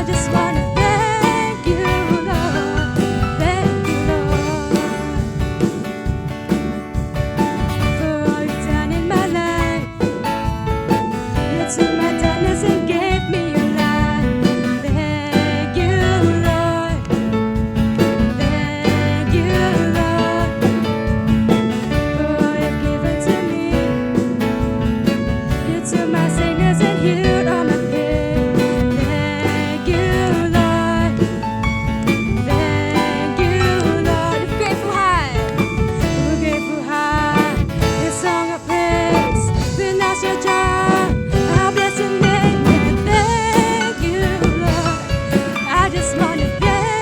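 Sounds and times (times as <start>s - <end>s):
worship band music with guitar: 0.0s - 47.0s.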